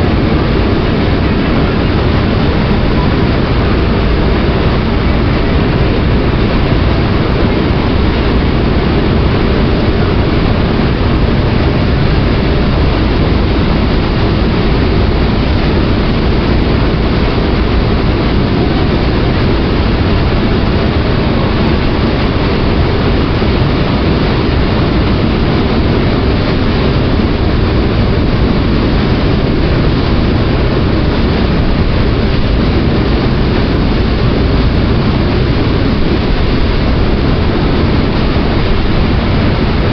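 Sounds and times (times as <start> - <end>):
ferry engine droning: 0.0 - 39.9
rushing water: 0.0 - 39.9.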